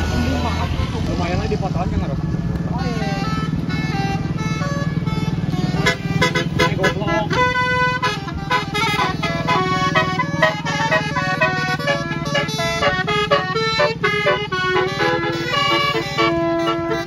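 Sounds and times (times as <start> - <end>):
bus engine running: 0.0 - 17.0
multi-tone musical air horn: 3.0 - 17.0.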